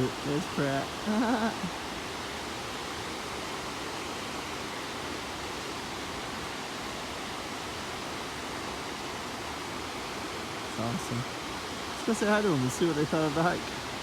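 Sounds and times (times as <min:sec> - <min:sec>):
waterfall roar: 0:00.0 - 0:14.0.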